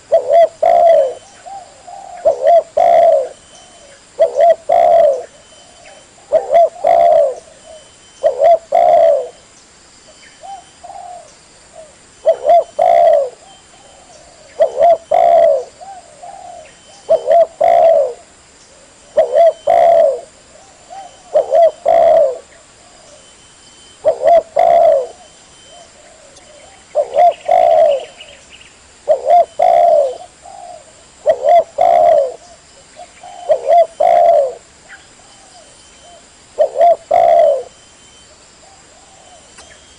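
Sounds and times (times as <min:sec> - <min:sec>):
dove cooing: 0:00.0 - 0:09.4, 0:10.4 - 0:28.4, 0:29.0 - 0:39.9.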